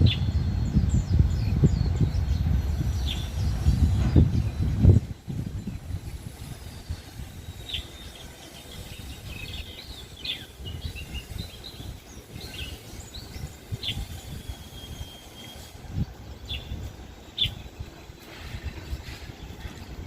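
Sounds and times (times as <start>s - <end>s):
birds chirping: 0.0s - 20.0s
low rumbling background noise: 0.0s - 20.0s.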